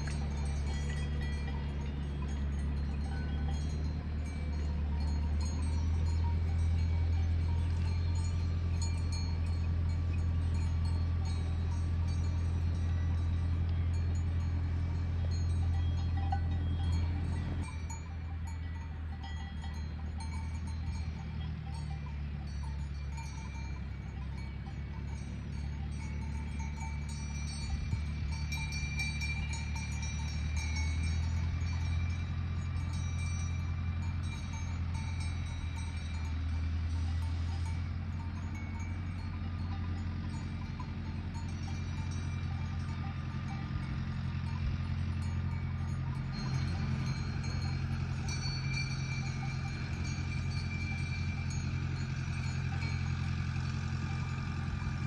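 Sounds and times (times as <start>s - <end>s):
cowbells ringing: 0.0s - 55.0s.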